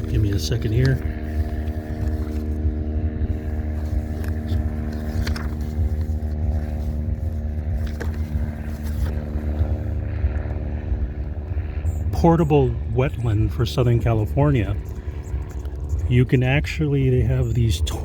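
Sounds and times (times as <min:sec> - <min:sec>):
low rumble: 0:00.0 - 0:18.0
steady mechanical hum: 0:00.0 - 0:18.0.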